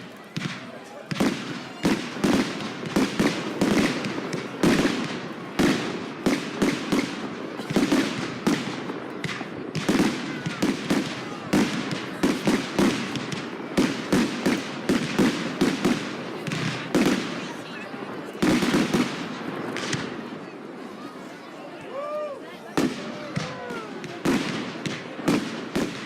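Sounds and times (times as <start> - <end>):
fireworks bangs: 0.0 - 20.6, 22.7 - 26.0
fireworks crackling and rumble: 0.0 - 26.0.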